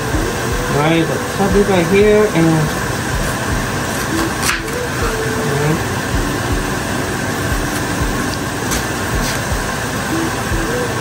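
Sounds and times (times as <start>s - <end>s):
whirring background noise: 0.0s - 11.0s.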